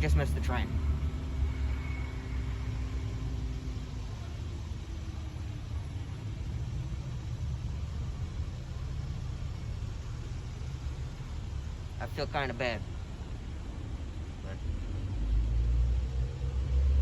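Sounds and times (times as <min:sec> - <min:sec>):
electric train rumbling: 0:00.0 - 0:17.0
train hum: 0:00.0 - 0:17.0.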